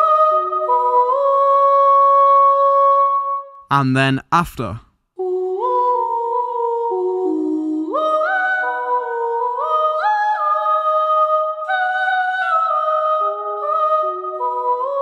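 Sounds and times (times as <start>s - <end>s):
sampled vocal singing slow melody: 0.0s - 15.0s.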